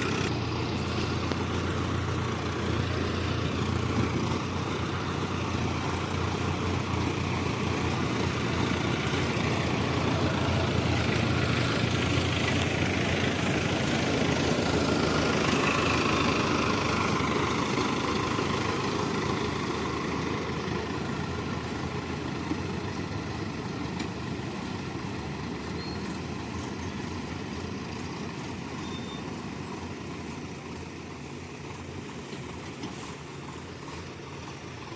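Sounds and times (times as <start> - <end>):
heavy machinery diesel engine: 0.0 - 34.9.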